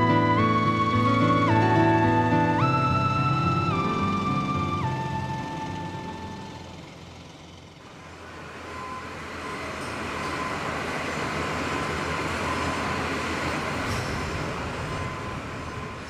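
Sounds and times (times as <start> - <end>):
machinery rumble and hiss: 0.0 - 16.0.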